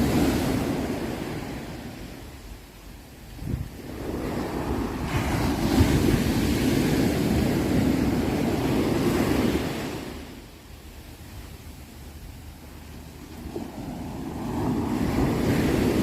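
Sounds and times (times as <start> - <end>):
ocean wave breaking and washing: 0.0 - 16.0.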